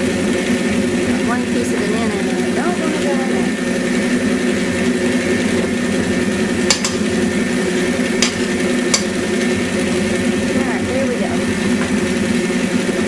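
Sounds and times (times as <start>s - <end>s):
stand mixer running: 0.0s - 13.0s.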